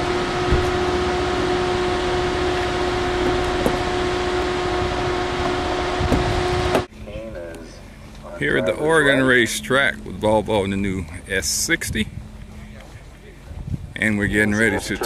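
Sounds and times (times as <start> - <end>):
mechanical hum: 0.0 - 15.0
noisy rush: 0.0 - 15.0.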